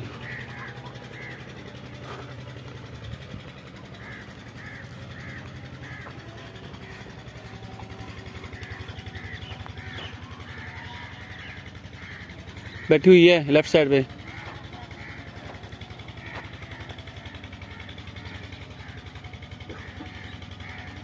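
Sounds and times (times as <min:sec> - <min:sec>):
crow cawing: 0:00.0 - 0:21.0
steady low hum: 0:00.0 - 0:21.0.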